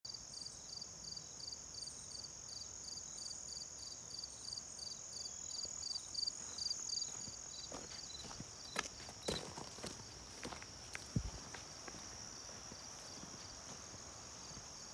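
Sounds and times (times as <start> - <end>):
insects chirping: 0.2 - 14.9.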